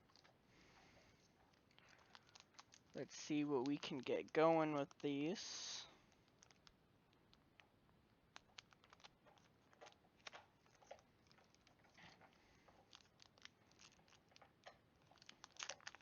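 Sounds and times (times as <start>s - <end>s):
trading cards clicking and crinkling: 0.0s - 16.0s.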